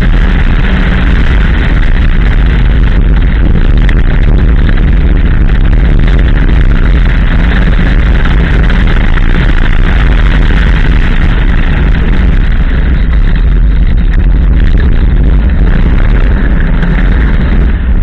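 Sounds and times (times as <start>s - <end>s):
car engine driven hard: 0.0s - 18.0s
wind buffeting microphone: 0.0s - 18.0s.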